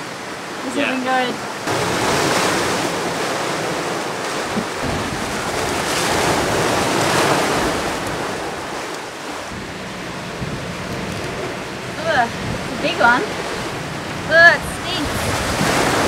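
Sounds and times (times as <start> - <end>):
rushing white water: 0.0 - 16.0
wind across microphone: 1.7 - 16.0.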